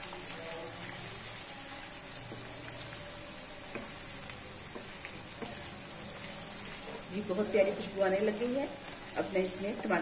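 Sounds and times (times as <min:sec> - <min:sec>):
paste sizzling in hot oil: 0:00.0 - 0:10.0
wooden spatula stirring in wok: 0:00.0 - 0:10.0.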